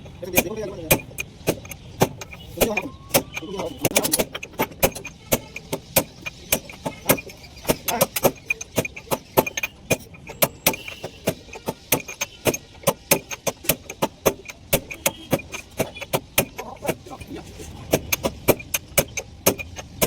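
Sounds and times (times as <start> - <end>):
tools clinking on metal parts: 0.0 - 20.0.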